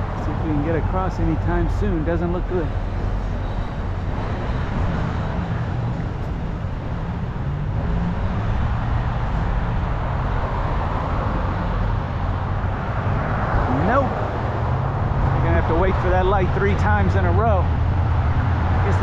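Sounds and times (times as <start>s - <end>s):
rumble of cars driving past: 0.0s - 19.0s.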